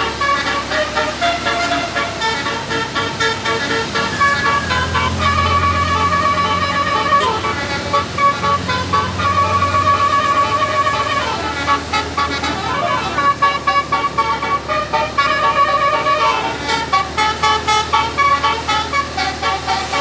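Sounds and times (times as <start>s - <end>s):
multi-tone bus horn playing a tune: 0.0s - 20.0s.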